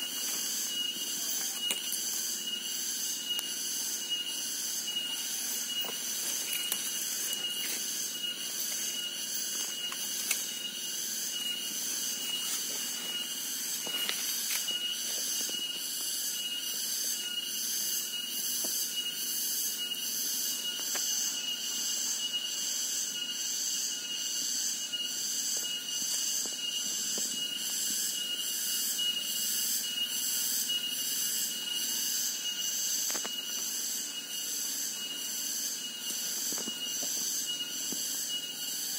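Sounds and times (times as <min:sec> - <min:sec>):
cicadas droning: 0:00.0 - 0:38.9.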